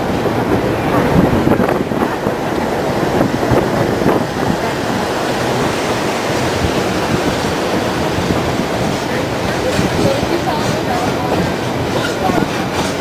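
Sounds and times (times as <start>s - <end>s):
railroad car rolling on track: 0.0s - 13.0s
wind on microphone: 0.0s - 13.0s.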